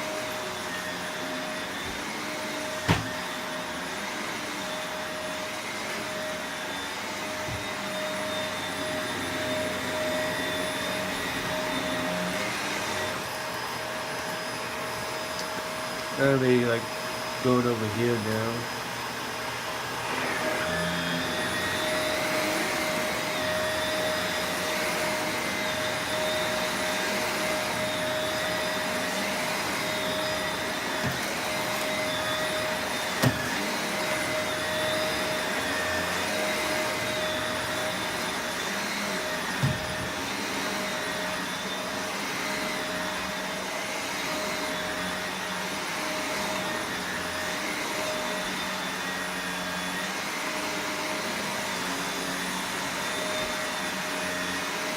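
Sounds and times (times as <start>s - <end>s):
vacuum cleaner motor whine: 0.0s - 54.9s.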